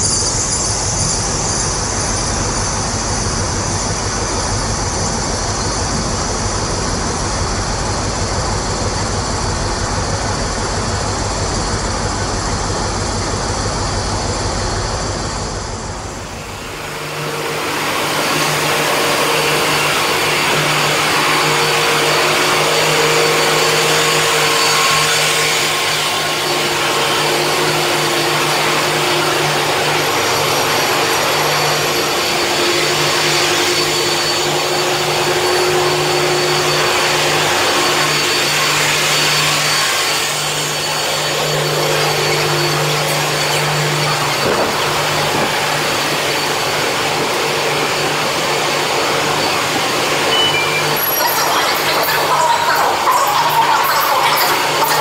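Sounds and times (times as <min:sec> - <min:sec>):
steady hum: 0:00.0 - 0:55.0
train rushing past: 0:00.0 - 0:55.0.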